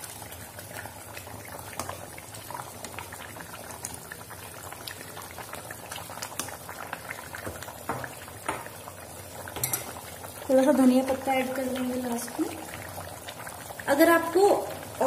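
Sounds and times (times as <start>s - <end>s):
thick puree bubbling and popping: 0.0s - 15.0s.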